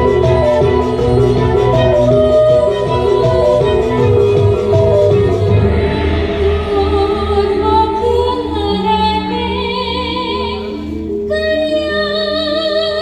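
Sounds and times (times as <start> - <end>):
woman singing over a beat: 0.0 - 13.0.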